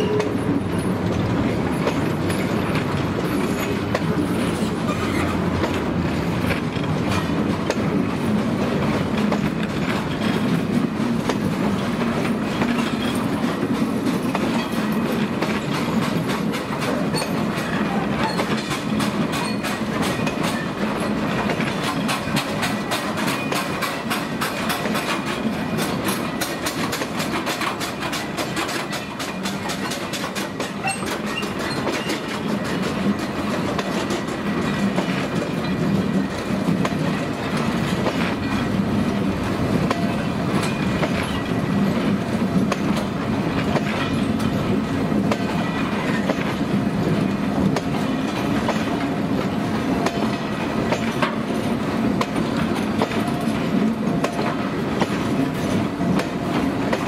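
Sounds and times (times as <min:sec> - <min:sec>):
wheels clicking over rail joints: 0:00.0 - 0:57.0.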